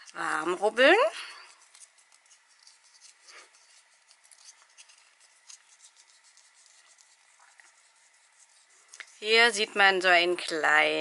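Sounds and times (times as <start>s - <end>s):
fingertips rubbing a card: 0.8s - 9.6s.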